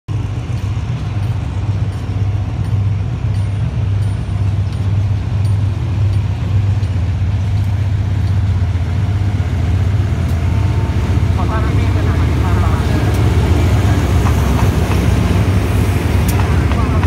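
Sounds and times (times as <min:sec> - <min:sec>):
locomotive engine droning: 0:00.1 - 0:17.0.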